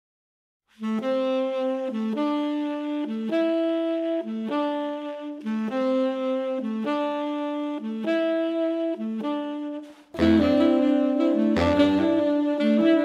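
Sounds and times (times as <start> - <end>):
saxophone quartet playing chords: 0.8 - 13.0.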